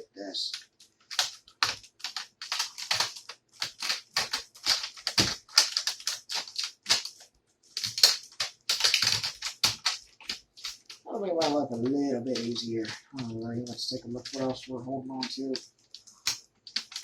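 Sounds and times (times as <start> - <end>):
plastic clicks and crackles: 0.4 - 17.0.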